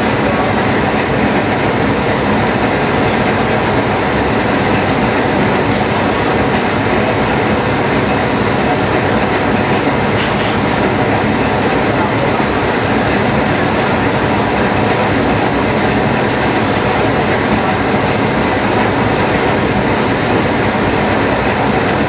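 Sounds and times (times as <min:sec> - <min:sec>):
spring coiling machine running: 0:00.0 - 0:22.0.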